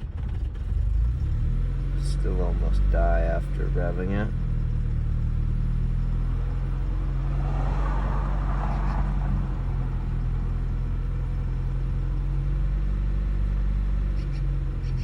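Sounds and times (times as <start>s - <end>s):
rough idling car engine: 0.0s - 15.0s.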